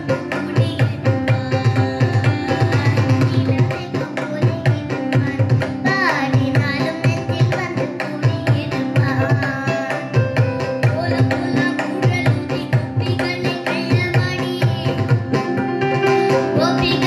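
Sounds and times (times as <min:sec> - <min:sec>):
child singing: 0:00.0 - 0:15.6, 0:16.3 - 0:17.0
tabla strokes: 0:00.0 - 0:17.0.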